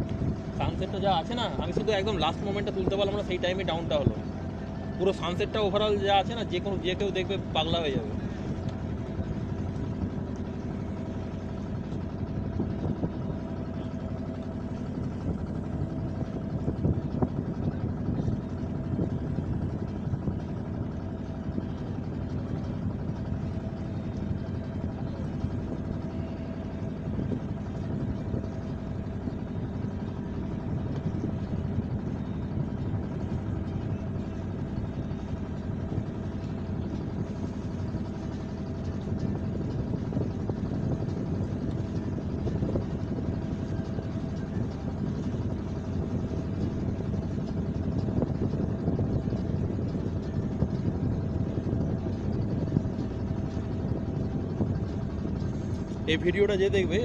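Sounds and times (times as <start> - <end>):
engine droning steadily: 0.0 - 57.0.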